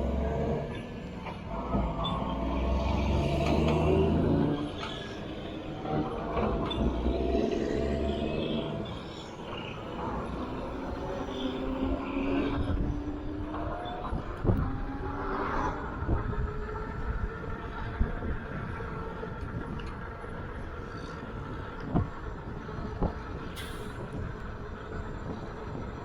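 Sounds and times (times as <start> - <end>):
tyre and wind noise: 2.8 - 26.0.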